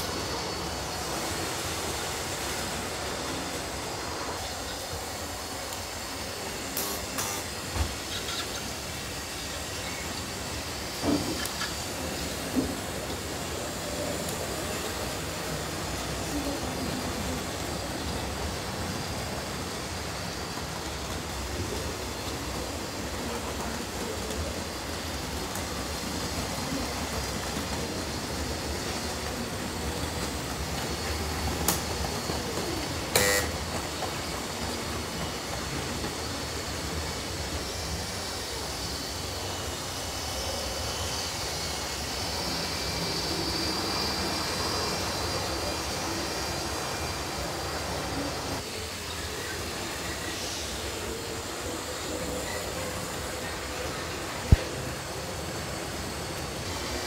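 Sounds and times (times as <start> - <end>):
model trains running: 0.0 - 57.0.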